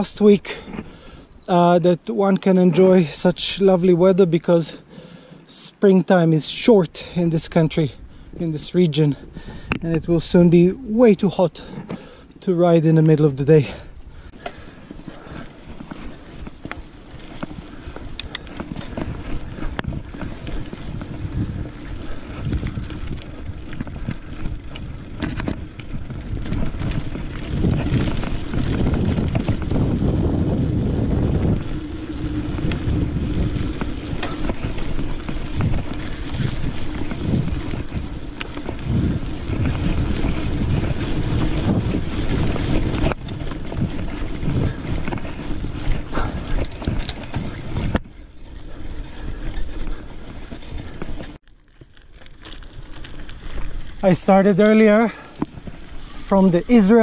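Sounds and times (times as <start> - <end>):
bike rattles and clicks: 0.0 - 57.0
bike tyres rolling over dirt: 0.0 - 57.0.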